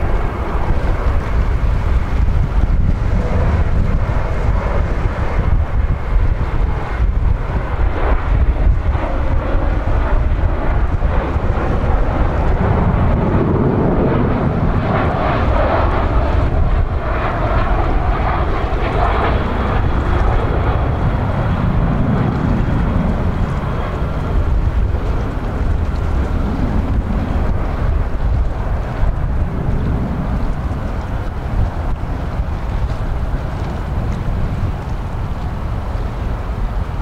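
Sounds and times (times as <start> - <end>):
jet engine rumble: 0.0 - 37.0
wind rumble on microphone: 0.0 - 37.0.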